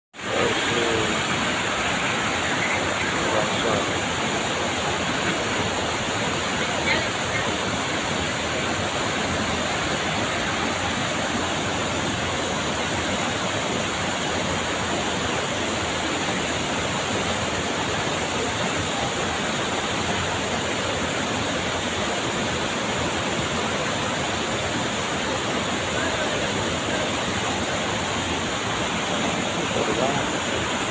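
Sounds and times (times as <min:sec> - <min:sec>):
river current rushing: 0:00.2 - 0:30.9.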